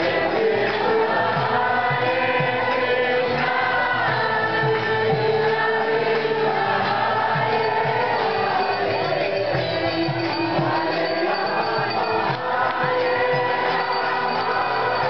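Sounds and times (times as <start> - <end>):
drum beat: 0.0 - 15.0
group chanting: 0.0 - 15.0.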